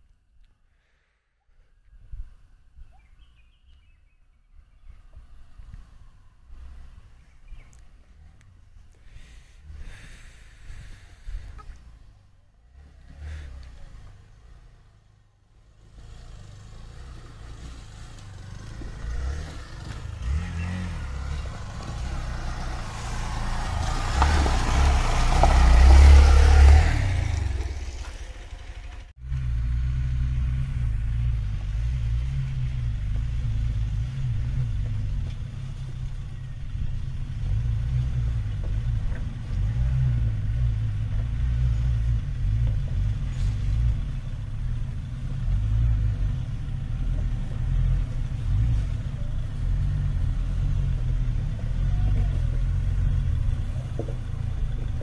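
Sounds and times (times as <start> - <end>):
vehicle engine running: 5.1 - 55.0.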